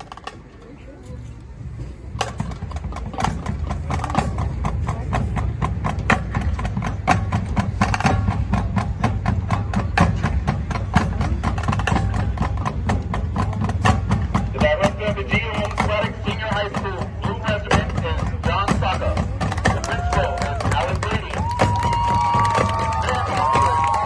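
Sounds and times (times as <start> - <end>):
marching band drums playing: 2.1 - 24.0.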